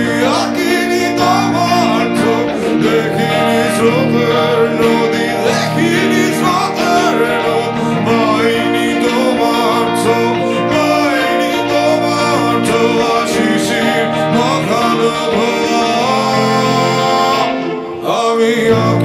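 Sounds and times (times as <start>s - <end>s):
guitar band song: 0.0s - 19.0s
person singing: 0.0s - 19.0s.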